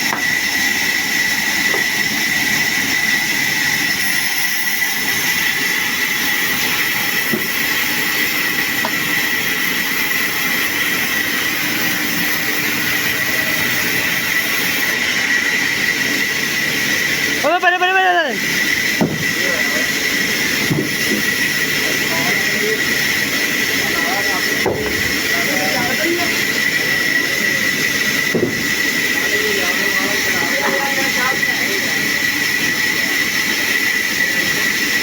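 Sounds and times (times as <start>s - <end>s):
sawmill saw running: 0.0s - 35.0s.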